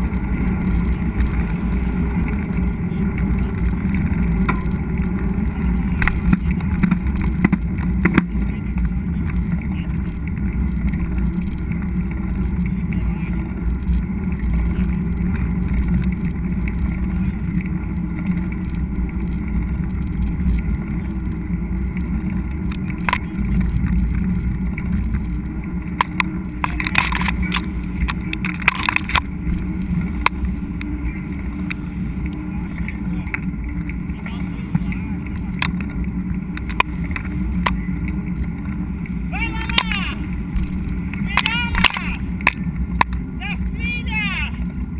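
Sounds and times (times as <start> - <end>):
bike clicks and rattles: 0.0 - 43.4
rumble of bike tyres and wind: 0.0 - 44.9.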